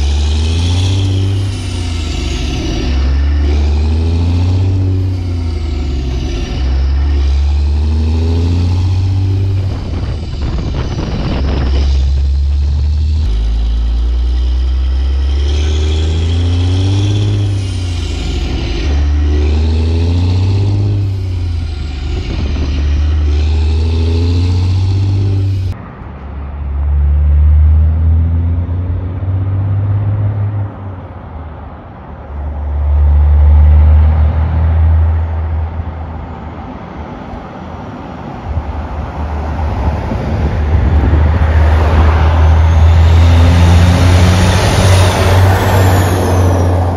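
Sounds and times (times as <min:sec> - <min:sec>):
truck diesel engine accelerating: 0:00.0 - 0:46.9.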